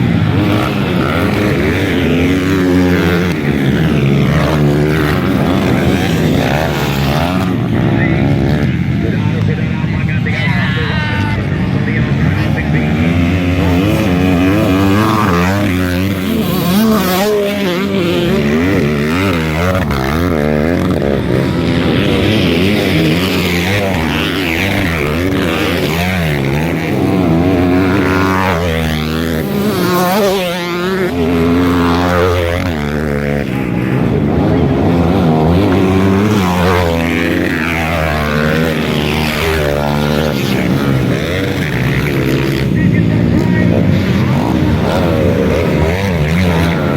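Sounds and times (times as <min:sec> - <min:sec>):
motocross bike engines revving: 0:00.0 - 0:46.9.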